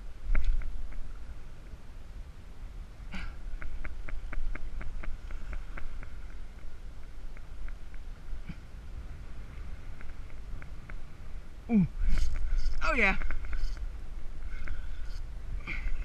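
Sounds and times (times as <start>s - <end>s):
wind on microphone: 2.6s - 16.0s.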